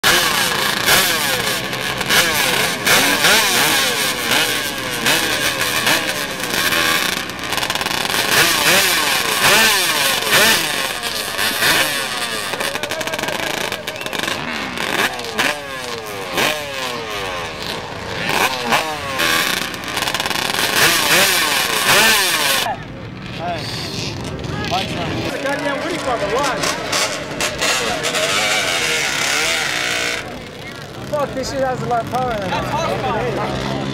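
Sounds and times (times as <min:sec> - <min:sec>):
two-stroke quad engines revving: 0:00.0 - 0:33.9.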